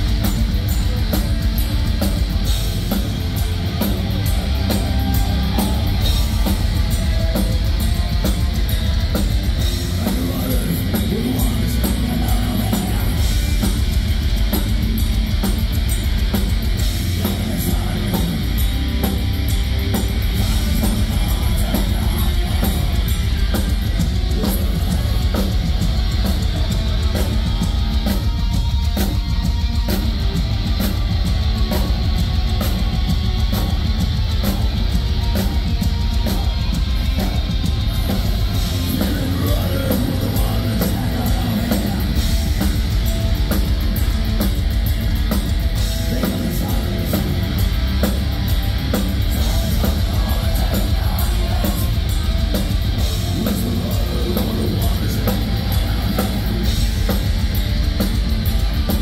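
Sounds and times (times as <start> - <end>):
metal band playing live: 0.0 - 59.0.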